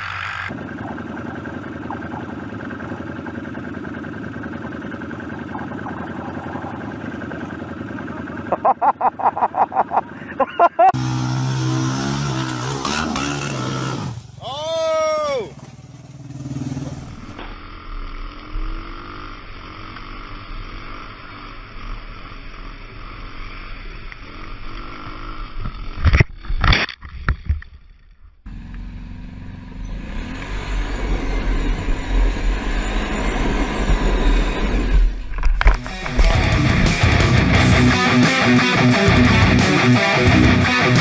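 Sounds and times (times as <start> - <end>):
motorcycle engine revving: 0.0 - 14.5, 15.5 - 26.5, 28.5 - 41.0
vehicle engine running: 0.0 - 14.7, 15.5 - 26.5, 28.0 - 41.0.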